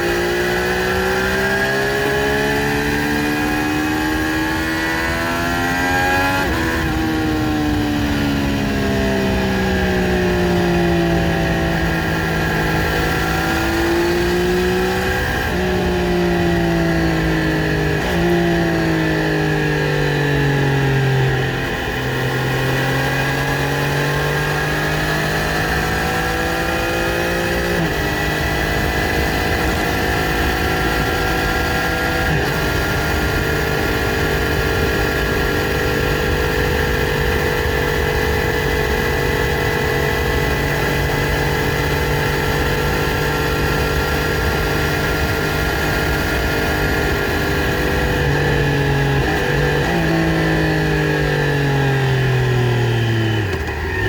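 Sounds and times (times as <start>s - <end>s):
motorcycle engine riding: 0.0s - 54.0s.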